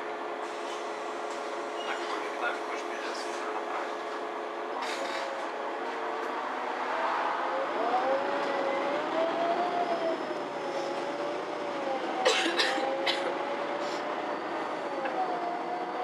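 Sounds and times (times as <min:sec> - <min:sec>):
bus drivetrain whine: 0:00.0 - 0:16.0.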